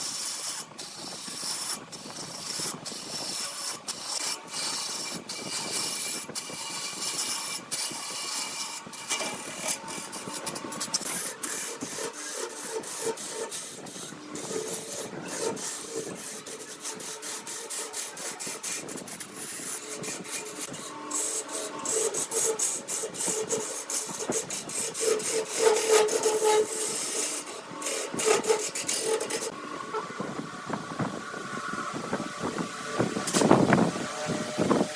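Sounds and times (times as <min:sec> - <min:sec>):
lathe tool rasping on wood: 0:00.0 - 0:34.9.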